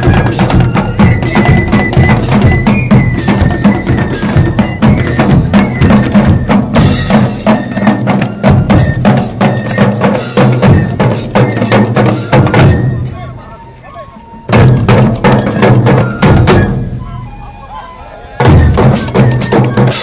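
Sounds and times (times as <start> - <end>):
drum corps playing fast beat: 0.0 - 17.4, 18.2 - 20.0.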